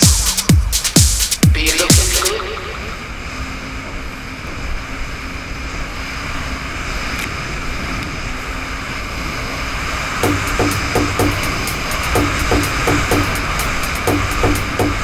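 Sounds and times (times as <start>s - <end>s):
rushing water: 0.0s - 15.0s
jet ski engine drone: 1.5s - 15.0s.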